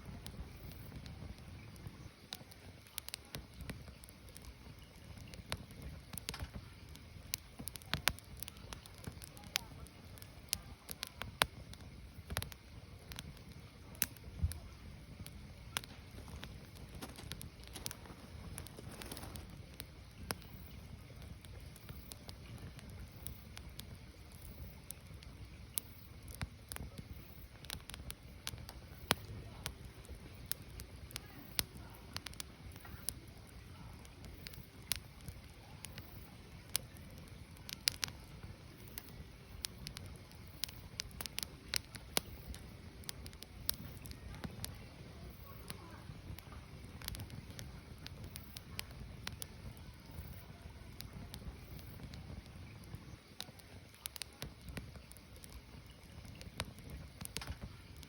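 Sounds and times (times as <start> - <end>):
burning wood crackling and popping: 0.0 - 58.0
low steady fire rumble: 0.0 - 58.0.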